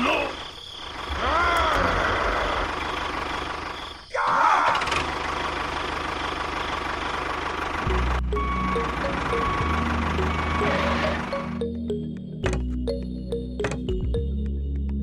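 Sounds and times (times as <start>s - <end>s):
engine humming and revving: 1.0s - 3.9s, 4.6s - 14.9s.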